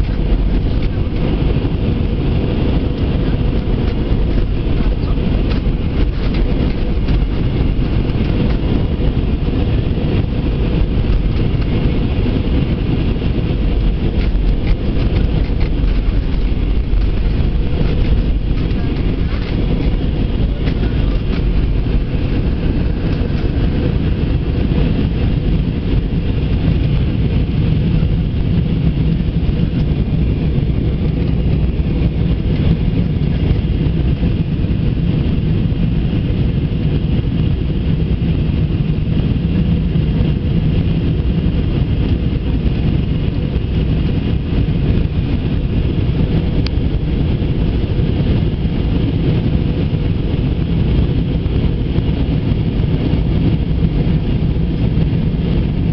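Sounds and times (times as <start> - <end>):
airliner cabin roar: 0.0 - 55.9.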